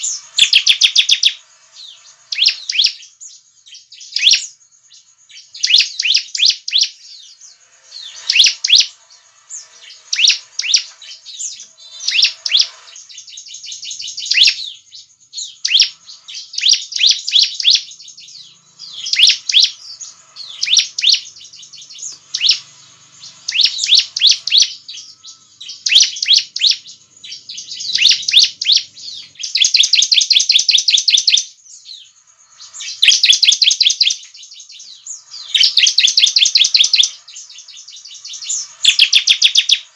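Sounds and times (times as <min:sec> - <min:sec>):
bird singing fast repeated notes: 0:00.0 - 0:39.9.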